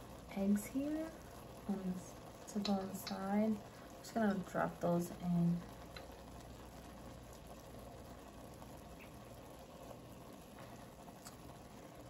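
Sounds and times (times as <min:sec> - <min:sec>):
broth bubbling in a pot: 0:00.0 - 0:12.0.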